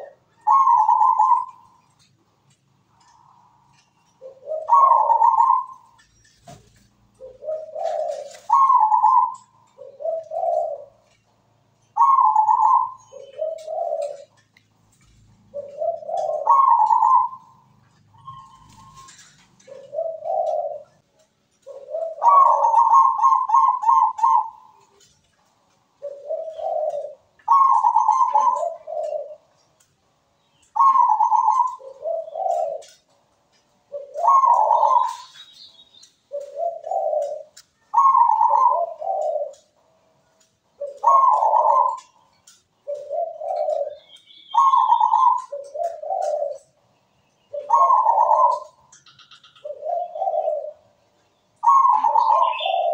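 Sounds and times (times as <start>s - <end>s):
dove cooing and trilling: 0.0s - 2.1s, 3.0s - 6.2s, 7.1s - 25.2s, 25.9s - 29.8s, 30.5s - 52.9s.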